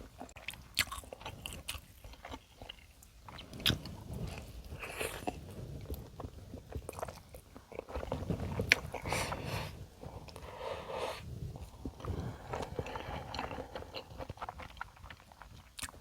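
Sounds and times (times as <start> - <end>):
chewing and biting food: 0.0 - 10.4, 11.5 - 16.0.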